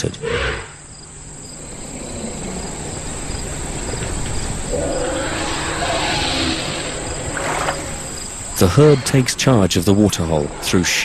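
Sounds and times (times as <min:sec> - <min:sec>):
elephants rumbling and calling: 0:00.0 - 0:11.0.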